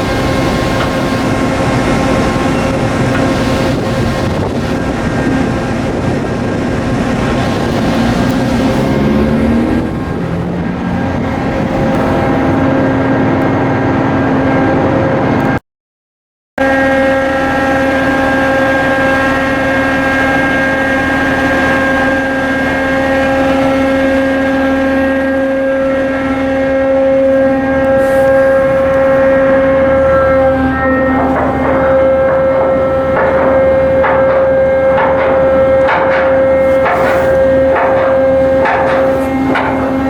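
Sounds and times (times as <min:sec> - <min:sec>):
ship diesel engine droning: 0:00.0 - 0:15.6, 0:16.6 - 0:40.0.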